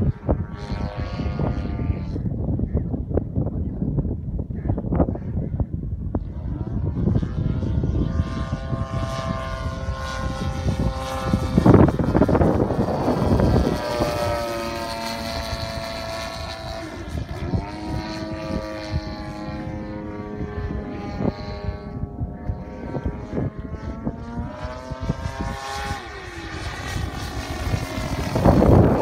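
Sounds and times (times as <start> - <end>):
model plane engine buzzing: 0.0 - 2.5, 6.0 - 29.0
wind noise on microphone: 0.0 - 29.0.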